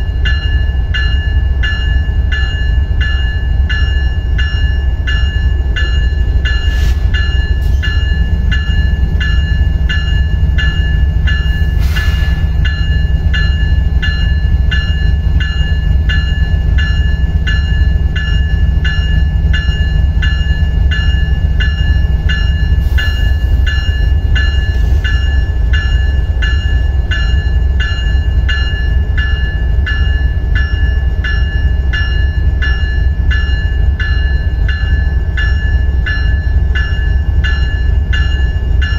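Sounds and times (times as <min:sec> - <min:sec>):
electronic locomotive bell ringing: 0:00.0 - 0:38.9.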